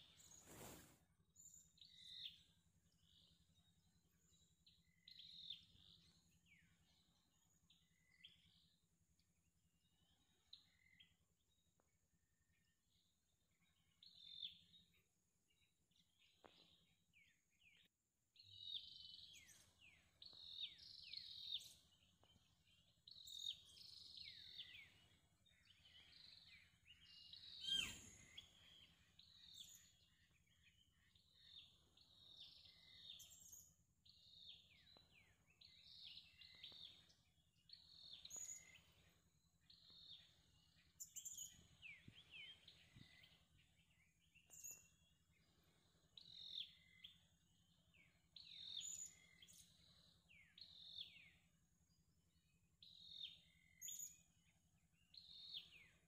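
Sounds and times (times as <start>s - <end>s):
faint bird chirps: 0.0s - 56.0s.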